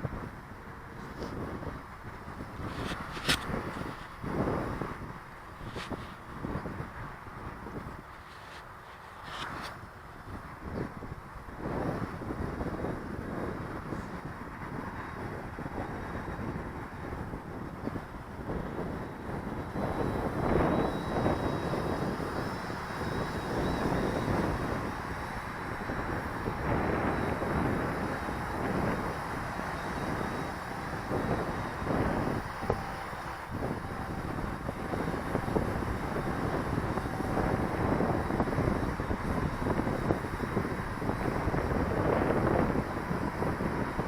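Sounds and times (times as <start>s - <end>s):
quadcopter motors whining: 0.0s - 44.0s
wind buffeting microphone: 0.0s - 44.0s.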